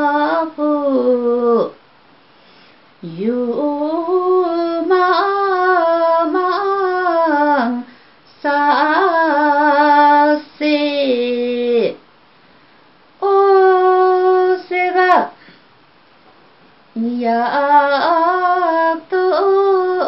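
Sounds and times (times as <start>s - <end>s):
woman singing unaccompanied: 0.0s - 1.8s, 3.0s - 12.1s, 13.2s - 15.4s, 16.9s - 20.0s.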